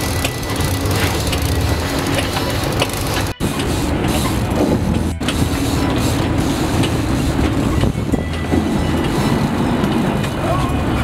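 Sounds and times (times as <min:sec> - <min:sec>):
boat engine running: 0:00.0 - 0:11.0
water noise: 0:00.0 - 0:11.0
wind: 0:00.0 - 0:11.0.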